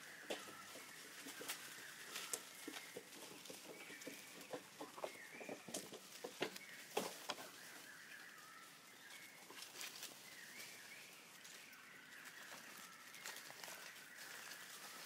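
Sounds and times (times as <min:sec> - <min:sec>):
dry leaves crackling: 0:00.0 - 0:15.0.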